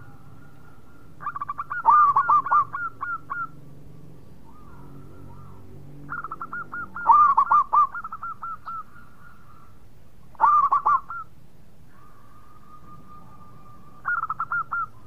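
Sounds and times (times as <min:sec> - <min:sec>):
doves cooing: 0:00.0 - 0:03.8, 0:04.4 - 0:15.0
faint steady tone: 0:00.0 - 0:15.0.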